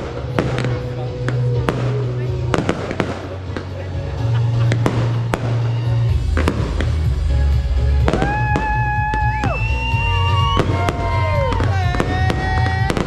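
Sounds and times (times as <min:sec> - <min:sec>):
music with heavy bass: 0:00.0 - 0:13.0.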